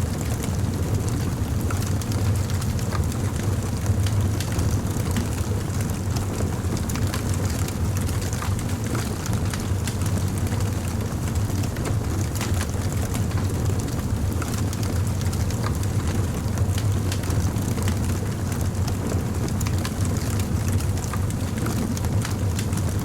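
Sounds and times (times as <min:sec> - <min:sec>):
low fire rumble: 0:00.0 - 0:23.0
fire crackling and popping: 0:00.1 - 0:23.0.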